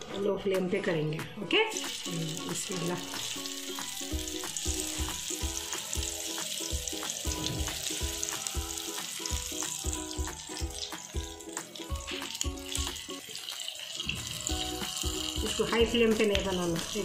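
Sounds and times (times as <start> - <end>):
background music with beat: 0.5 - 17.0
okra sizzling in oil: 1.7 - 17.0.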